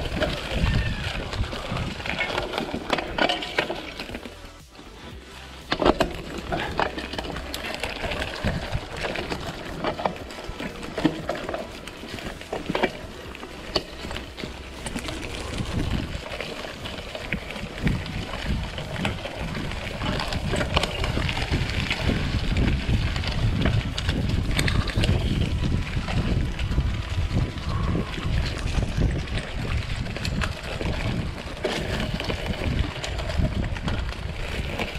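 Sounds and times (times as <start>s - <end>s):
bike knocking and rattling: 0.0s - 34.9s
mountain bike on dirt trail: 0.0s - 34.9s
wind rumbling on microphone: 0.0s - 34.9s.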